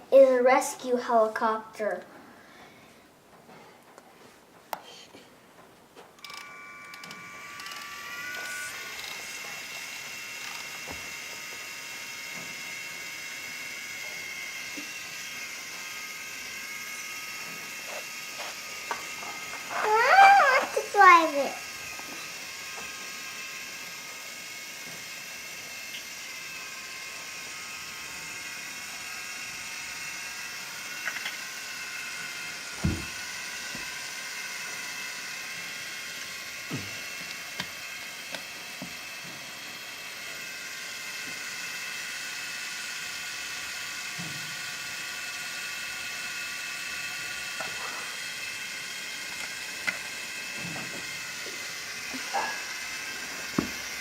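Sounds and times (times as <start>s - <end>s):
small machine whirring hum: 0.0s - 54.0s.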